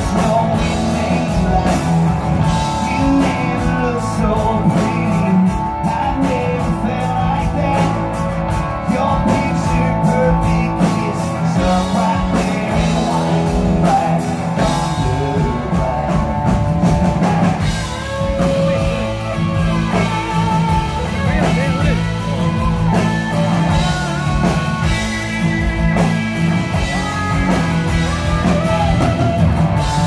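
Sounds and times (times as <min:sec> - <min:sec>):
bass guitar: 0:00.0 - 0:30.0
bending guitar lead: 0:00.0 - 0:30.0
drums: 0:00.0 - 0:30.0.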